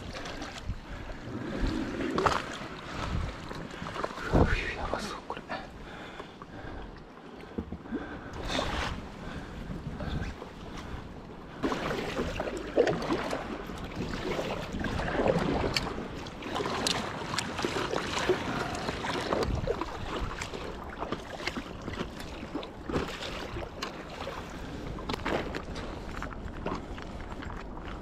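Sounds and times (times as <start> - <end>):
water sloshing around paddleboard: 0.0 - 28.0.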